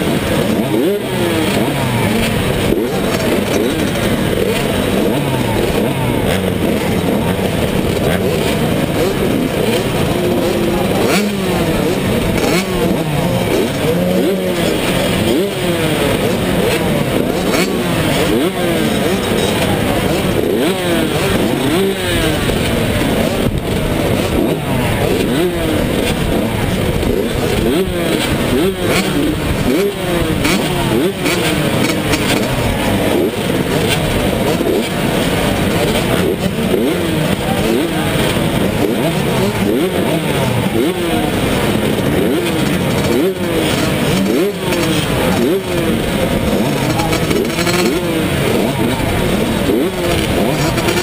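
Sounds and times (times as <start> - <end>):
motocross bikes revving: 0.0 - 51.0.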